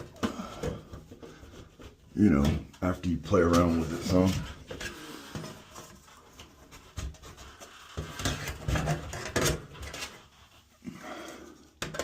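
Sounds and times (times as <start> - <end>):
metal scraping in drywall: 1.1 - 10.8.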